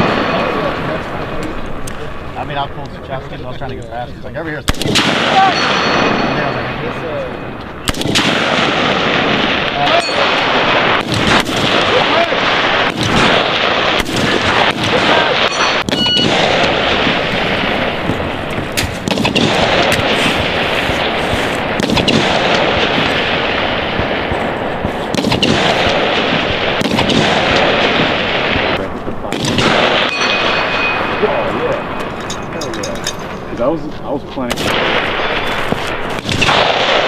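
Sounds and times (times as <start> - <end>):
rifle shots: 0.0 - 2.6, 4.6 - 32.6, 34.5 - 37.0.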